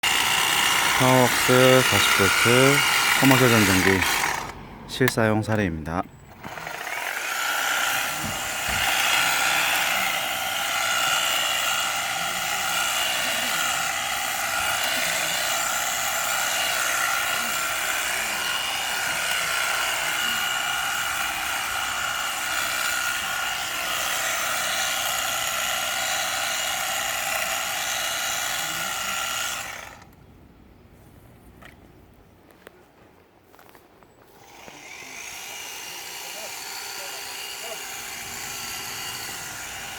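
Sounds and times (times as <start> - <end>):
hedge trimmer motor whine: 0.0 - 5.6, 6.3 - 30.2, 34.3 - 39.9.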